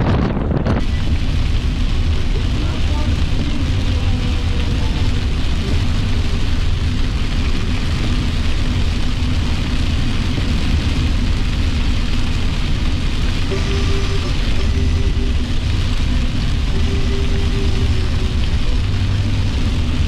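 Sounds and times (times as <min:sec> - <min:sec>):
car road and engine noise: 0:00.0 - 0:20.0
tyres on wet road: 0:00.0 - 0:20.0.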